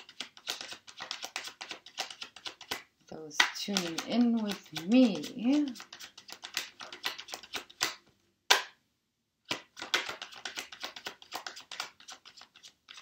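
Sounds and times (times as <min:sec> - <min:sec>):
cards being shuffled: 0:00.0 - 0:08.8, 0:09.5 - 0:13.0
cards snapping: 0:00.0 - 0:08.8, 0:09.5 - 0:13.0.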